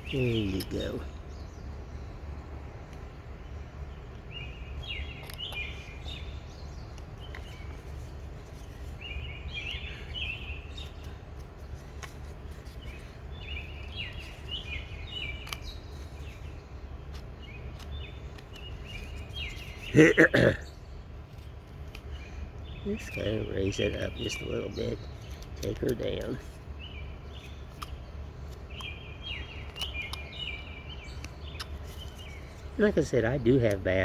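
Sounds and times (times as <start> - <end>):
songbird singing: 0.0 - 34.0
steady low hum: 0.0 - 34.0.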